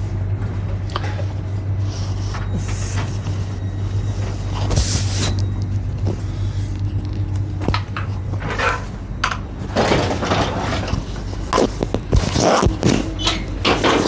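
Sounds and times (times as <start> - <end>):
train carriage low hum: 0.0 - 14.0.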